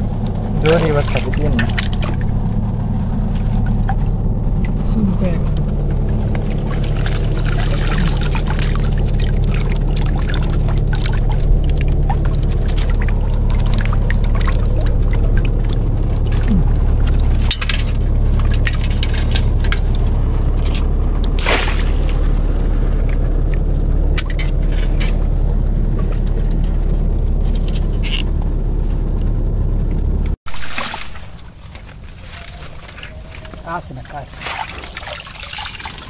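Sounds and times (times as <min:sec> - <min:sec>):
low motor hum: 0:00.0 - 0:36.0
water pouring and splashing: 0:00.4 - 0:28.2, 0:30.5 - 0:36.0.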